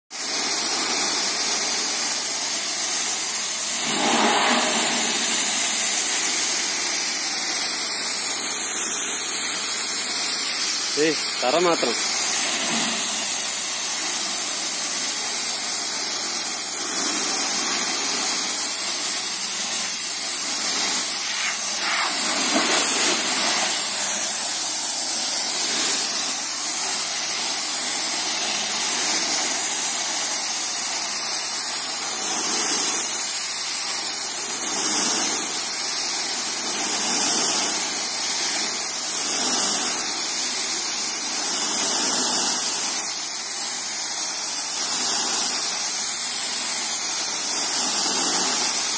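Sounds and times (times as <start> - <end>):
pressure washer spraying concrete: 0.1 - 48.9.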